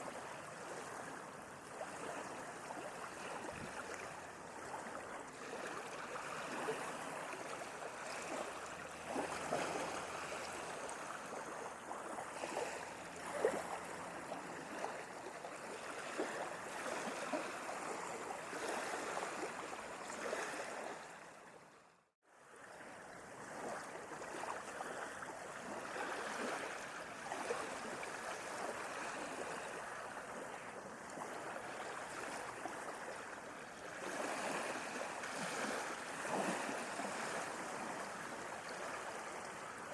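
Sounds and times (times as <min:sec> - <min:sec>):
sea waves splashing: 0:00.0 - 0:21.5, 0:22.8 - 0:39.9.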